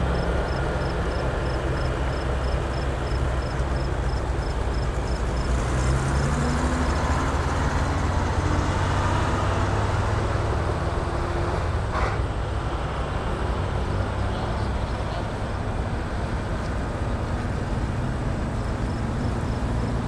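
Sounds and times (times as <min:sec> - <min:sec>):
fire truck engines driving past: 0:00.0 - 0:20.0.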